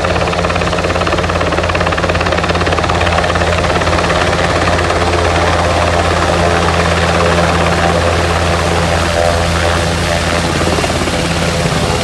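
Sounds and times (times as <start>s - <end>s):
helicopter hovering drone: 0.0s - 12.0s.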